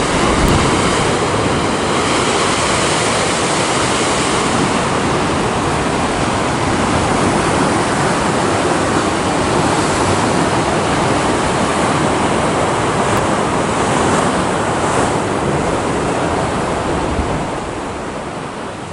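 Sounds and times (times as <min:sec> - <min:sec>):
heavy surf breaking on rocks: 0:00.0 - 0:18.9.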